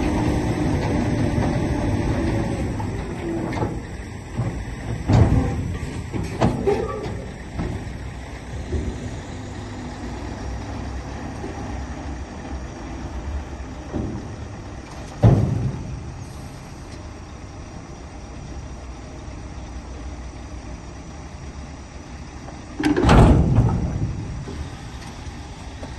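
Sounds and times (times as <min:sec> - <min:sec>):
truck diesel engine rumbling: 0:00.0 - 0:25.9.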